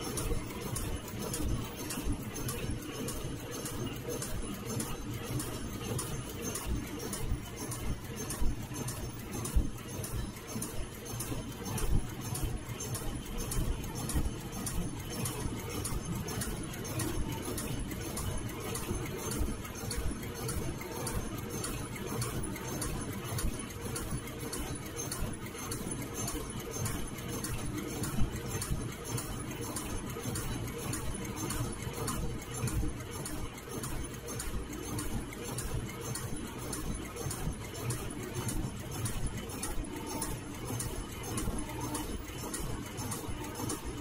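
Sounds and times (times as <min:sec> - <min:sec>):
machine mechanical clatter: 0:00.0 - 0:44.0
regular machine ticks: 0:00.0 - 0:44.0.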